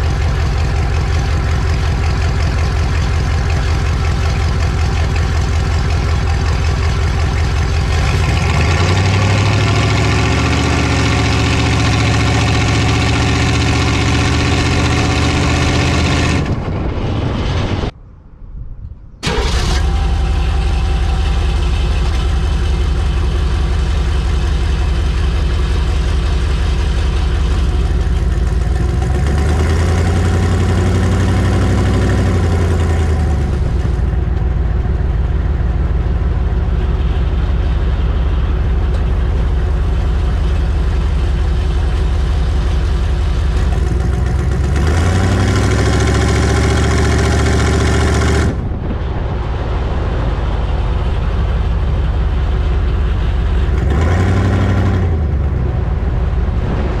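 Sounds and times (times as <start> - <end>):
diesel engine idling and revving: 0.0 - 18.0, 19.2 - 57.0.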